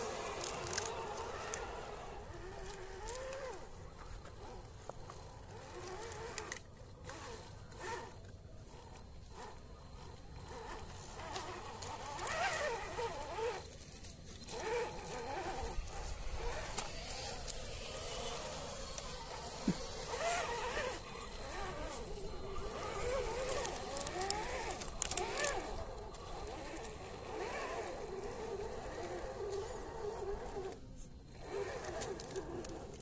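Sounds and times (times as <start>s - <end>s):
electric motor and gearbox whining: 0.0s - 33.0s.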